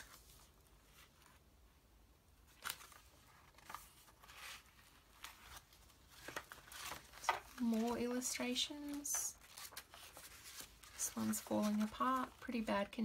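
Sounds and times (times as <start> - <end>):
book pages rustling: 0.0 - 1.5, 2.4 - 13.0.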